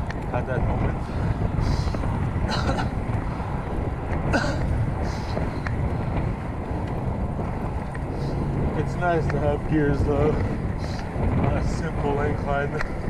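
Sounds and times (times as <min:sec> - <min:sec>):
bike rolling rumble: 0:00.0 - 0:13.0
wind buffeting microphone: 0:00.0 - 0:13.0.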